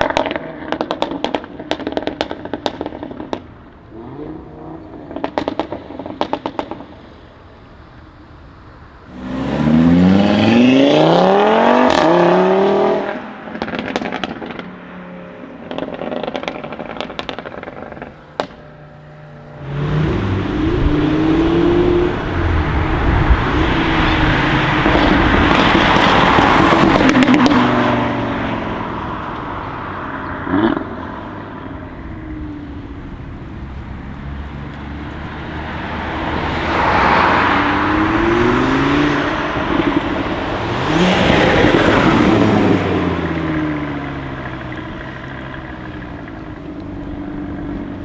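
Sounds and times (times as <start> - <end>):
exhaust pop: 0.0 - 12.4, 13.0 - 48.0
car engine accelerating hard: 0.0 - 48.0.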